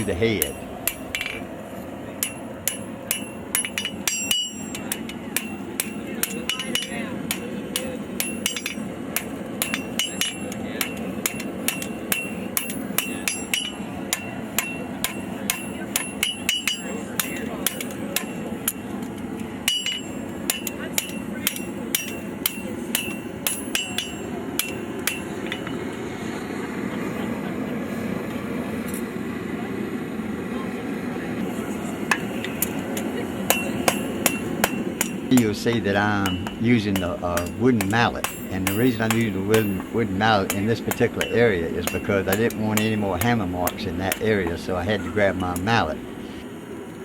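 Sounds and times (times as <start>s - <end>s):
hammer ringing on anvil: 0.0s - 1.5s, 2.1s - 19.0s, 19.6s - 25.9s, 32.1s - 46.0s.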